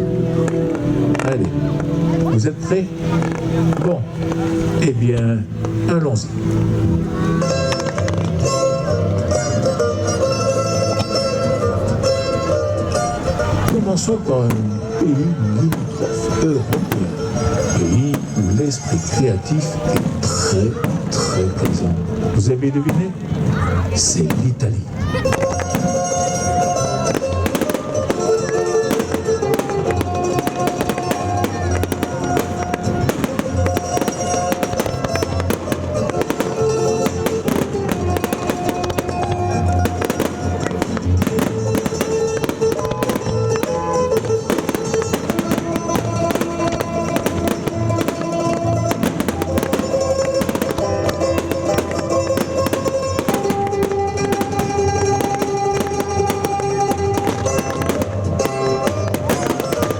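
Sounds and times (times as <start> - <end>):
loud music: 0.0 - 23.0, 25.0 - 59.9
fireworks bursting and crackling: 0.0 - 59.9.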